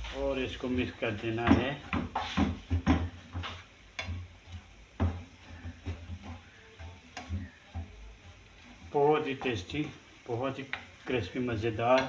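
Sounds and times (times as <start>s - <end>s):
wooden spatula scraping a frying pan: 0.0s - 12.0s.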